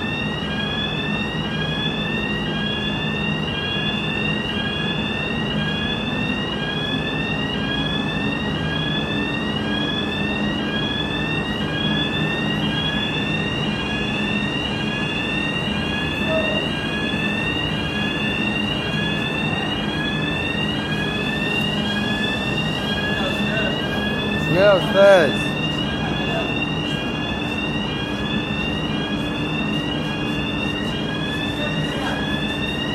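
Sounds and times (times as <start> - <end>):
fire alarm rising sweep tone: 0.0 - 32.9.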